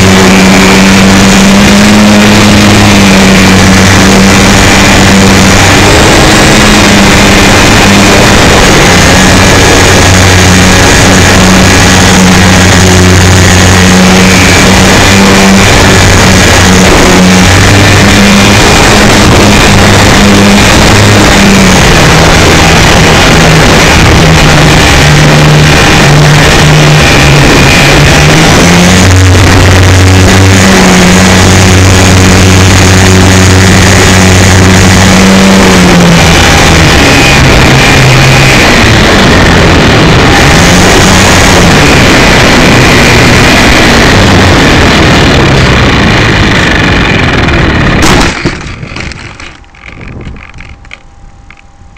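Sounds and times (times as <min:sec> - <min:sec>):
electric motor and propeller hum: 0:00.0 - 0:51.9
wind buffeting on camera: 0:00.0 - 0:51.9.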